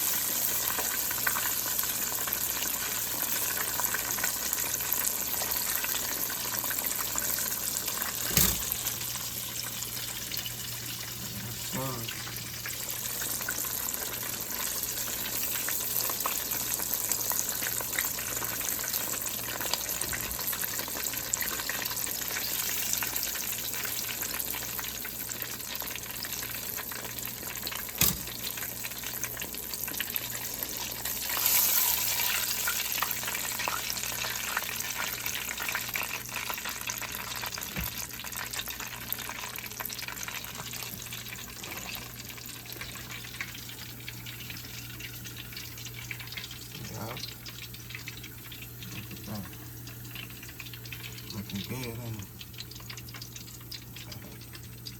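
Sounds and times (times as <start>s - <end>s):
chicken deep-frying in oil: 0.0s - 54.9s.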